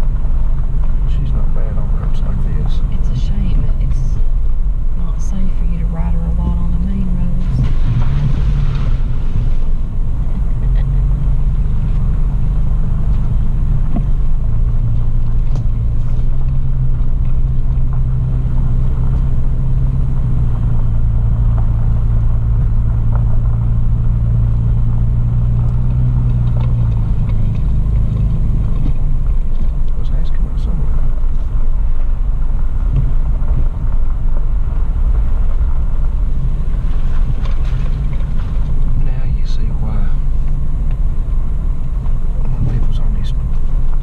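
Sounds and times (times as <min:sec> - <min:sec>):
car engine droning: 0:00.0 - 0:44.0.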